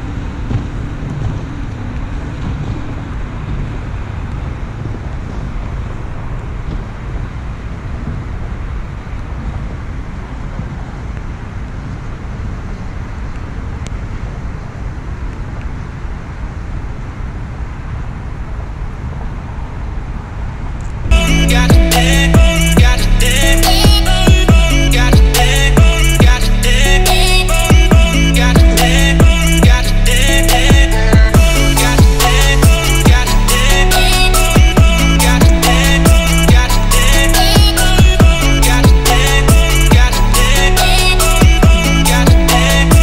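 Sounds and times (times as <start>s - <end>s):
wind on microphone: 0.0s - 43.0s.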